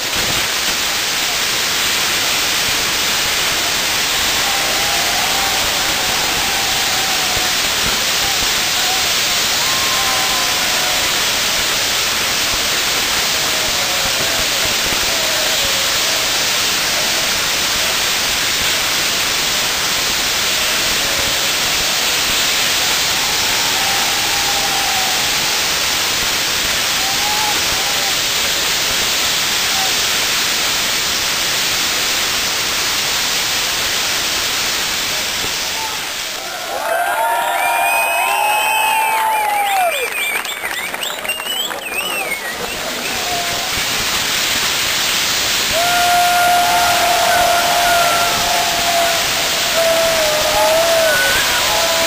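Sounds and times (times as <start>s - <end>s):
firework wheel hissing: 0.0s - 52.0s.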